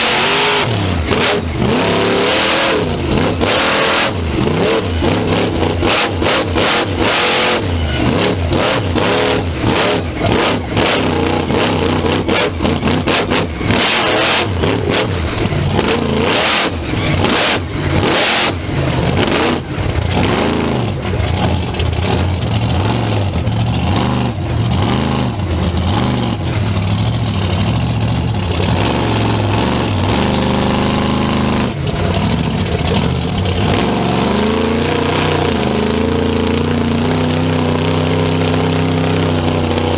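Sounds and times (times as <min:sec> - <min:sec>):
engine crackles: 0:00.0 - 0:39.9
vehicle engine revving: 0:00.0 - 0:39.9.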